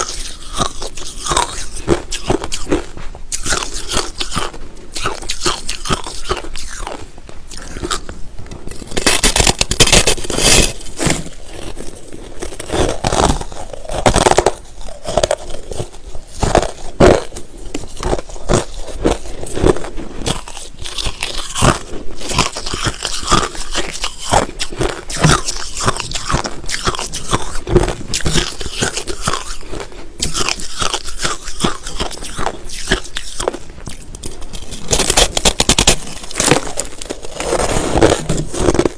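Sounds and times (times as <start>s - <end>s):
chewing crushed ice: 0.0s - 38.9s.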